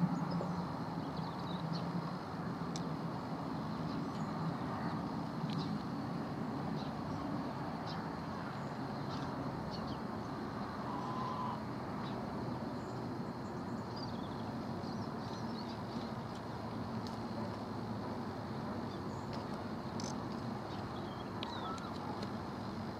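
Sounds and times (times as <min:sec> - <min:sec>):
low outdoor rumble: 0:00.0 - 0:22.9.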